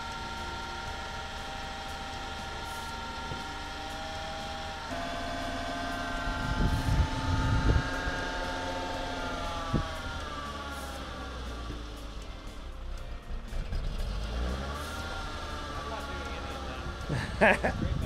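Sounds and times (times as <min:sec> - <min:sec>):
car engine idling unevenly: 0:00.0 - 0:18.0.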